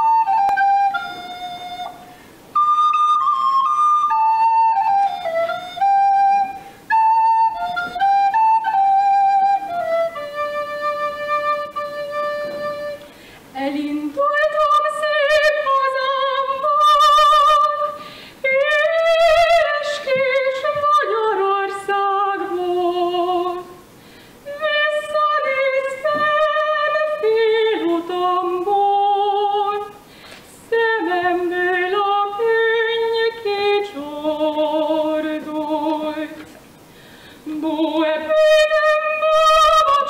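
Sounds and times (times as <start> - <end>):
woman singing unaccompanied: 0.0 - 2.0, 2.6 - 36.6, 37.4 - 40.0.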